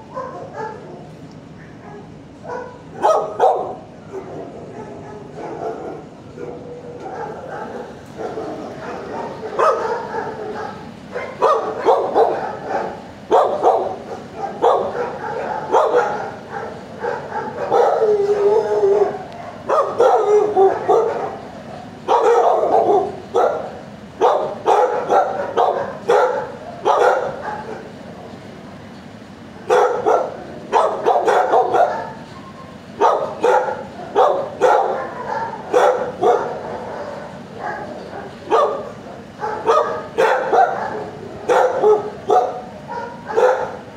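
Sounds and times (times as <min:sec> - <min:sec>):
dogs barking: 0:00.0 - 0:28.8, 0:29.5 - 0:43.9.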